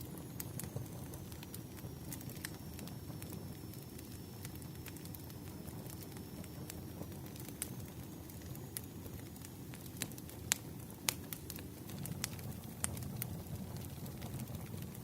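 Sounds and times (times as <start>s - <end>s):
fire pops: 0.0s - 15.0s
flame rumble: 0.0s - 15.0s
wood fire crackling: 0.0s - 15.0s.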